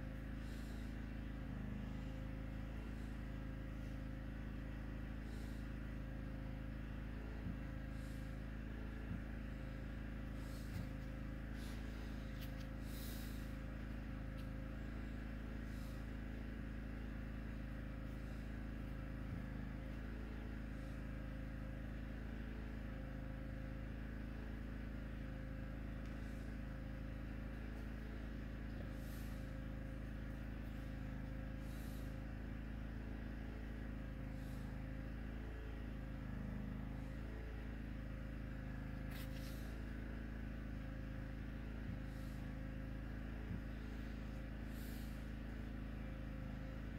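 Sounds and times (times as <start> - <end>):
low background hum: 0.0 - 46.9.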